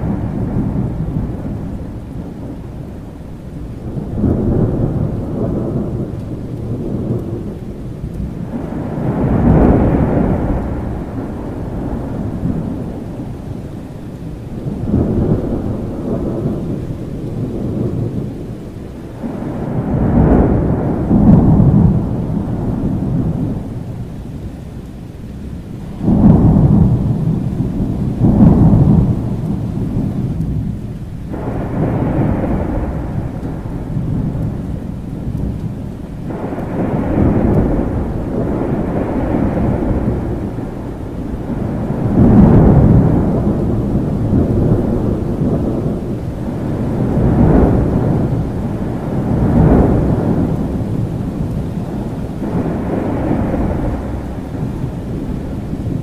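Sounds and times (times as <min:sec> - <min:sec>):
steady rain: 0:00.0 - 0:56.0
thunder rumbling: 0:00.0 - 0:56.0.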